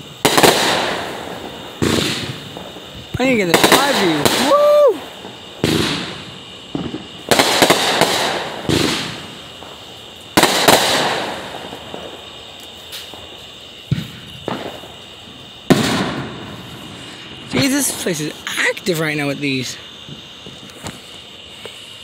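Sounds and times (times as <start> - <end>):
fireworks bangs: 0.0 - 22.0
fireworks pops: 0.0 - 22.0.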